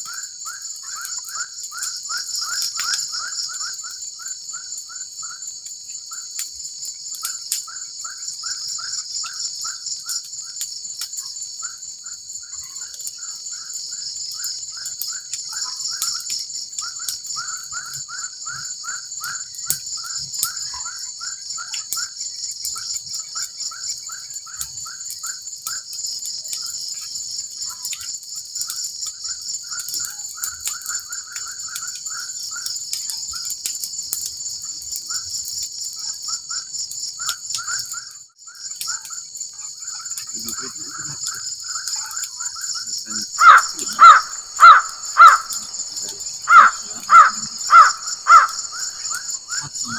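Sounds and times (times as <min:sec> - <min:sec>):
insect chorus: 0:00.0 - 0:49.9.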